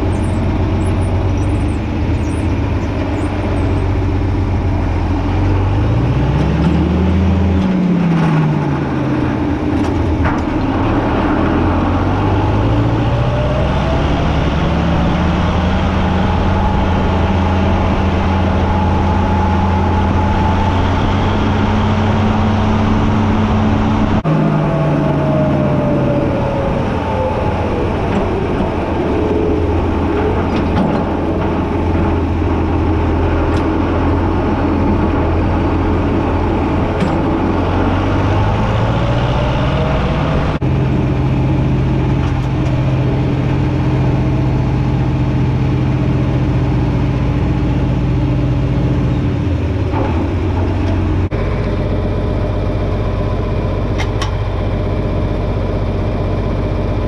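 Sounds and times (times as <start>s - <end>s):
tractor diesel engine: 0.0s - 57.0s.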